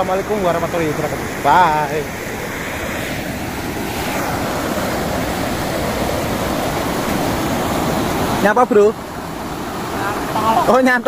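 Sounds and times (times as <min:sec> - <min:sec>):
river water spilling over weir: 0:00.0 - 0:11.0.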